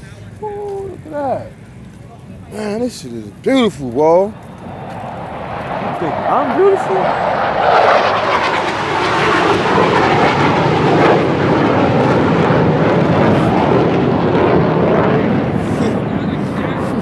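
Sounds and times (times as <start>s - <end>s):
steady rushing roar: 0.0s - 17.0s.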